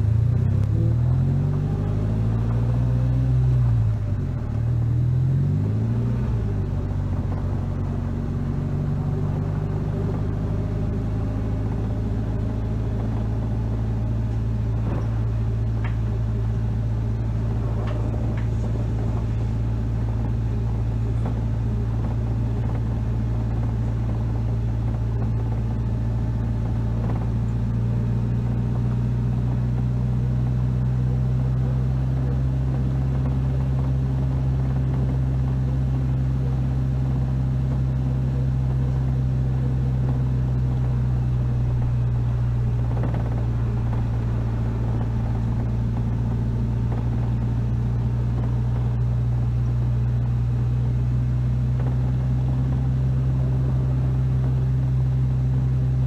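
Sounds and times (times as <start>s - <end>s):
roadster engine driving: 0.0s - 56.0s.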